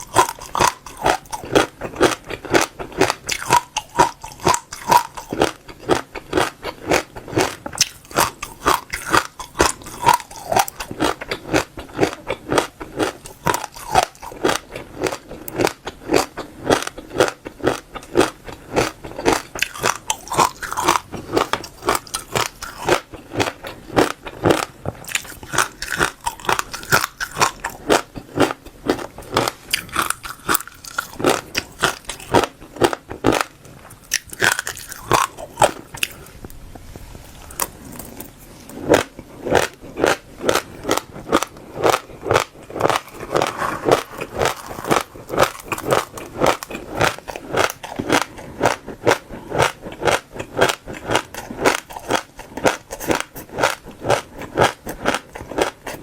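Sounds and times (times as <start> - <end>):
chewing crunchy seeds: 0.0 - 36.5, 37.2 - 56.0.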